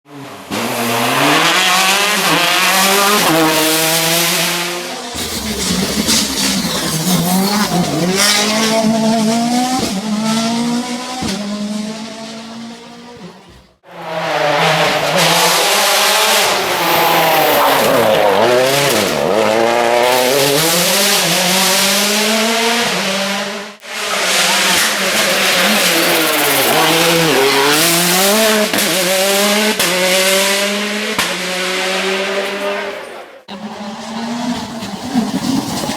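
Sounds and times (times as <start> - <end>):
rally car engines revving: 0.1 - 35.9.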